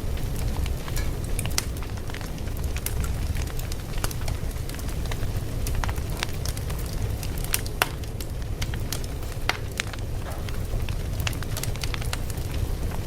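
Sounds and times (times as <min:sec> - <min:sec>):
sharp pops of fire: 0:00.0 - 0:13.0
wood fire crackling: 0:00.0 - 0:13.0.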